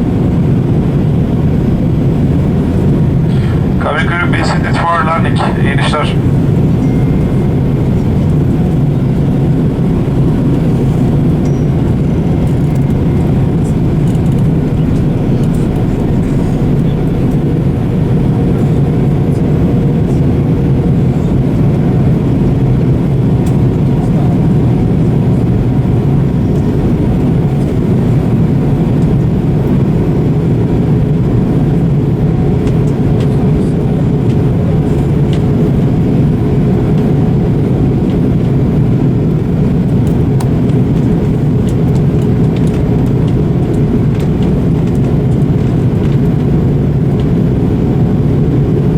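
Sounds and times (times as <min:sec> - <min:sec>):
airliner cabin engine rumble: 0:00.0 - 0:48.9
faint steady hum: 0:00.0 - 0:48.9.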